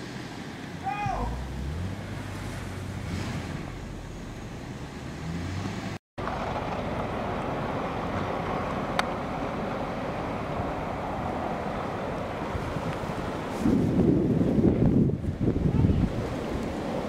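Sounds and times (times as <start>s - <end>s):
car engine under load: 0.0s - 17.0s
wind: 0.0s - 17.0s
snowplow blade scraping snow: 1.3s - 17.0s.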